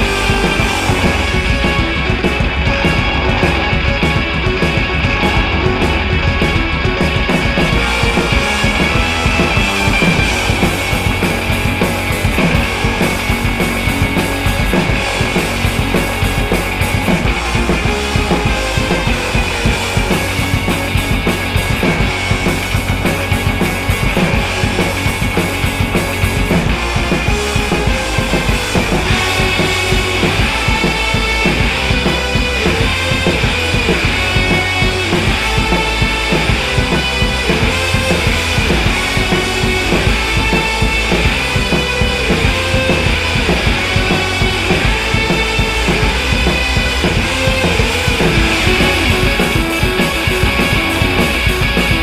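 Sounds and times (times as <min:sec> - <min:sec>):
instrumental rock music: 0:00.0 - 0:52.0.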